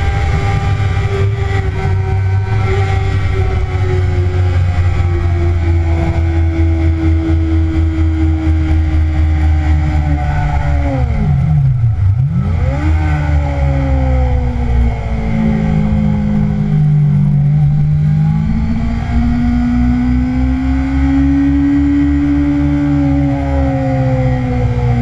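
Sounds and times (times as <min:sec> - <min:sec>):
motorcycle engine running hard: 0:00.0 - 0:25.0
wind rumble: 0:00.0 - 0:25.0.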